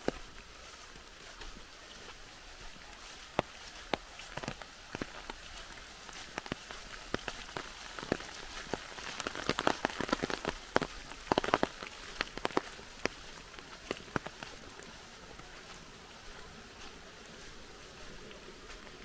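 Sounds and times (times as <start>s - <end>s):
rain hiss: 0.0s - 19.0s
raindrops tapping: 0.0s - 19.0s.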